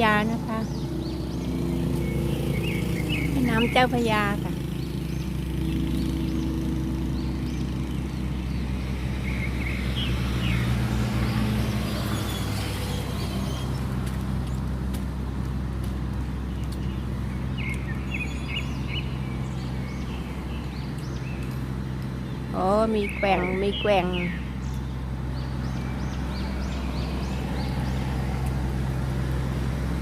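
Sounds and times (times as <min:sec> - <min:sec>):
boat diesel engine drone: 0:00.0 - 0:30.0.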